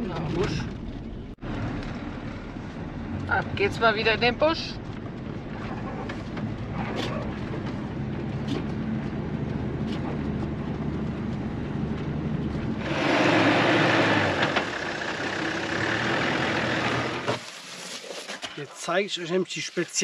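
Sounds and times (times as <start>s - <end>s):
diesel engine running: 0.0s - 17.4s.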